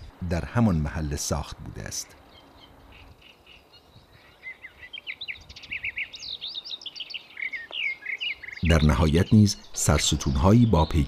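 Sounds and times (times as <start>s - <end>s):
faint outdoor background noise: 0.0s - 11.0s
small birds chirping and singing: 0.0s - 11.0s.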